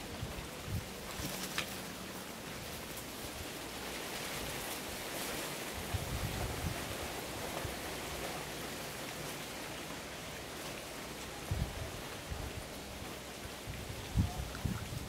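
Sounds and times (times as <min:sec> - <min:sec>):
boar rustling in leaves: 0:00.0 - 0:15.0.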